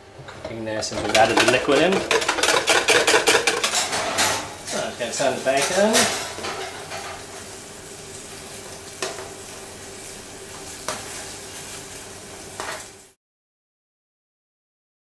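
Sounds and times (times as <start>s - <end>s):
bacon sizzling under a grill: 0.6s - 13.2s.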